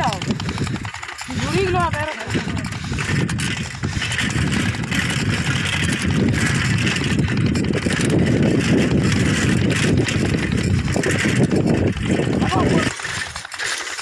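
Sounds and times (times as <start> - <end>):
vehicle rumbling on dirt road: 0.0 - 14.0.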